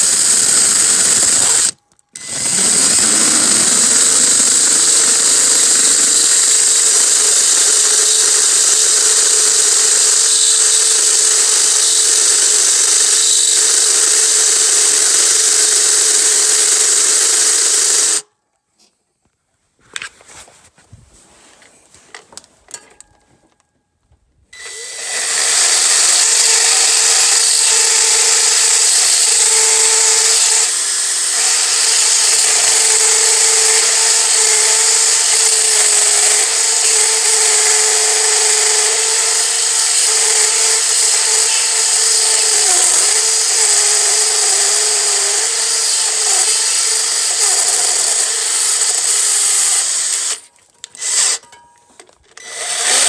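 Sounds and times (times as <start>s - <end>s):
high-speed power tool whine: 0.0s - 18.2s, 24.6s - 51.4s, 52.4s - 53.0s.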